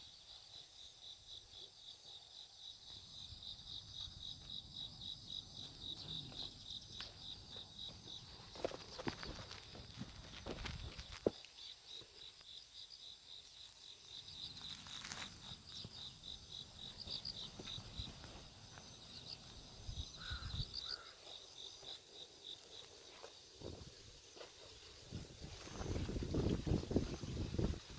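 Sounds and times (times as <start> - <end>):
insects chirping: 0.0 - 27.9.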